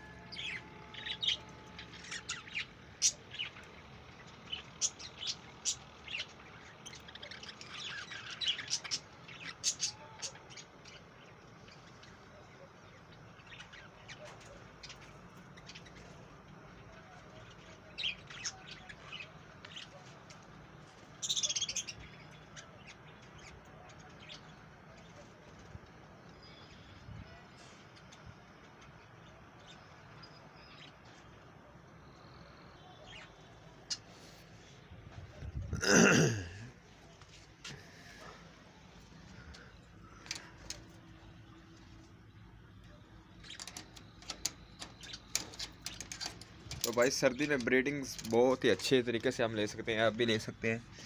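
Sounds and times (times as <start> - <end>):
faint background noise: 0.0 - 51.0.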